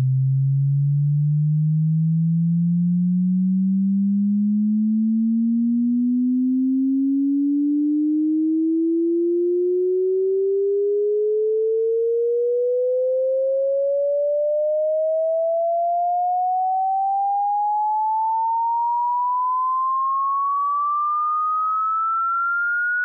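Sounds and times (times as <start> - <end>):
rising sine test tone: 0.0 - 23.0.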